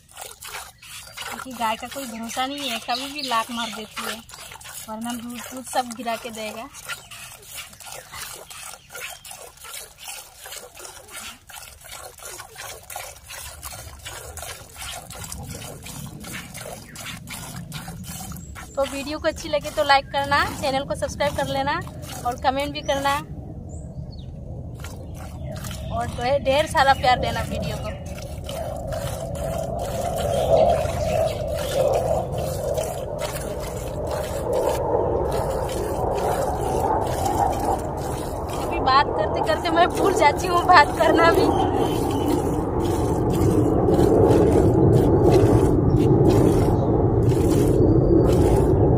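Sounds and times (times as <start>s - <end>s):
milk squirting into pail: 0.0s - 23.2s, 24.7s - 48.9s.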